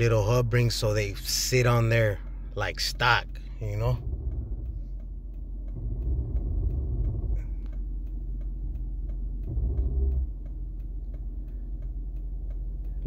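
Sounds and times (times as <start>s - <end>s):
car engine idling rumble: 0.0s - 13.0s
steady ticking: 0.0s - 13.0s.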